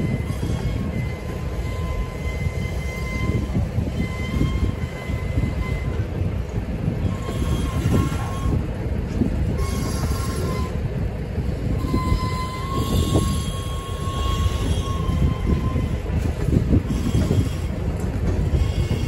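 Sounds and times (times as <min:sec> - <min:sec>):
high wheel squeal: 0:00.0 - 0:06.1, 0:07.0 - 0:08.6, 0:09.6 - 0:10.8, 0:11.8 - 0:19.0
train wheels clattering on rails: 0:00.0 - 0:19.0.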